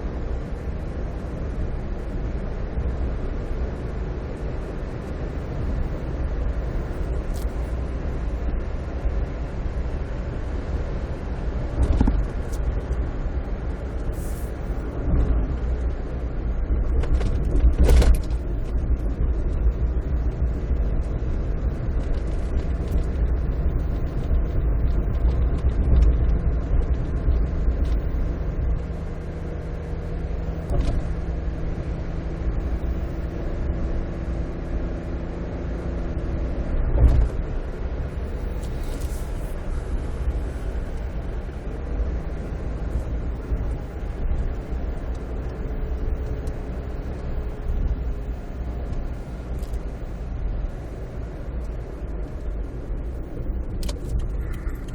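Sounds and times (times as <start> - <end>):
car interior road rumble: 0.0 - 54.9.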